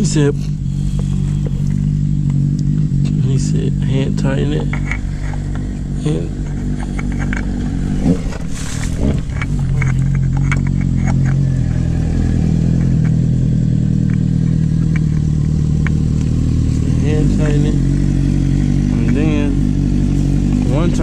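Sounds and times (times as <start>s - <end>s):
steady low motor hum: 0.0s - 21.0s.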